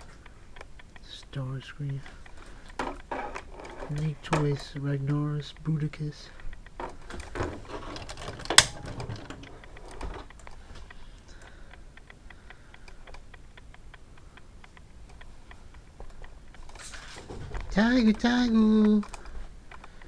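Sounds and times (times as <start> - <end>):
light clicks and taps: 0.0 - 20.0.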